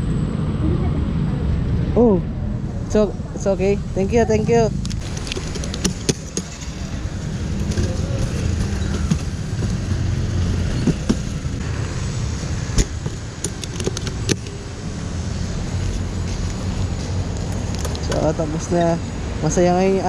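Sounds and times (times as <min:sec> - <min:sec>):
steady low rumble: 0:00.0 - 0:18.6.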